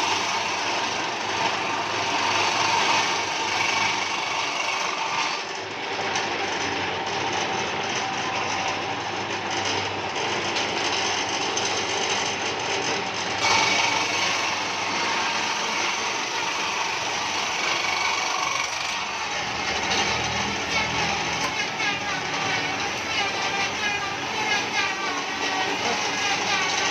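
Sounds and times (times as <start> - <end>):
tool grinding wood: 0.0 - 26.9.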